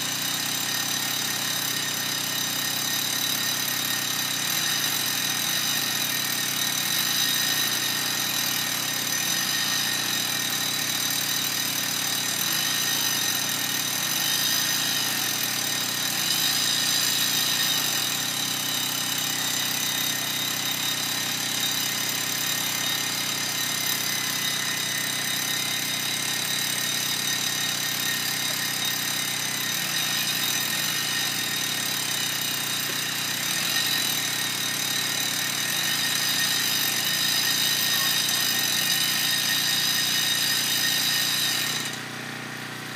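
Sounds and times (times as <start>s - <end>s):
electric drill whining: 0.0s - 42.9s.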